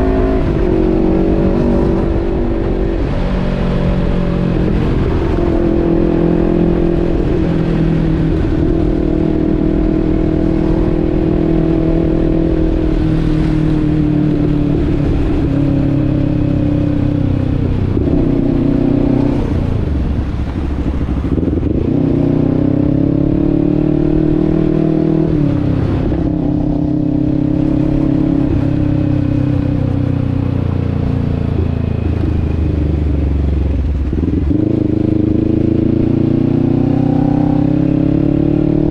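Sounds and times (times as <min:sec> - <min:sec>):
vehicle engine while driving: 0:00.0 - 0:38.9.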